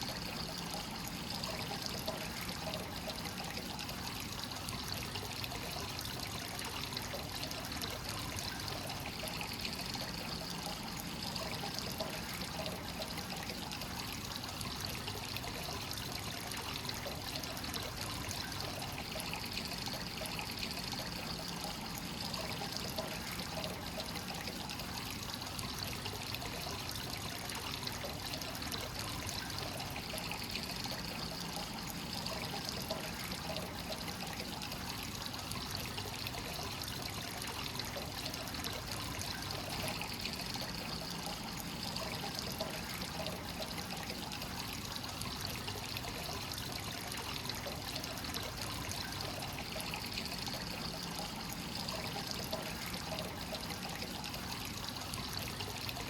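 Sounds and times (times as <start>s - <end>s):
water flowing into bath: 0.0s - 56.0s.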